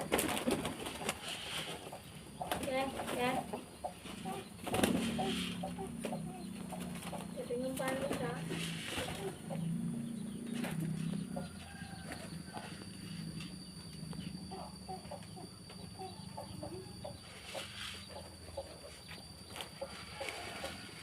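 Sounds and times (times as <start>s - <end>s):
birds clucking and cooing: 0.0s - 21.0s.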